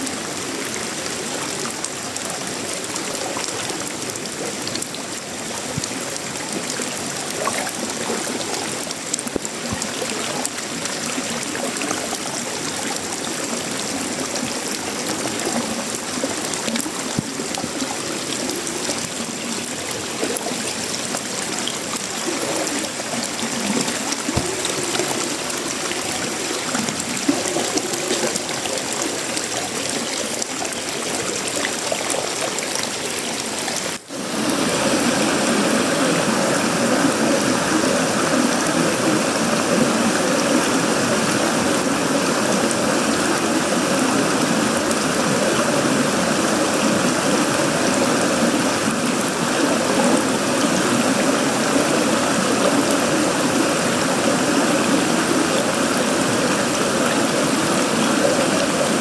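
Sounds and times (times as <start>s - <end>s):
heavy rain on metal roof: 0.0s - 59.0s.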